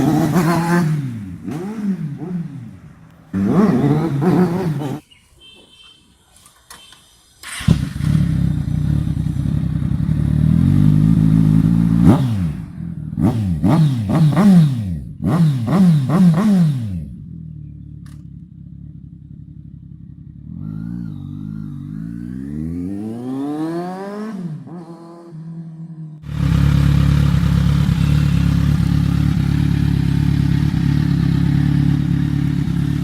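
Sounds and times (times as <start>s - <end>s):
motorcycle engine idling and revving: 0.0s - 5.2s, 7.4s - 33.0s.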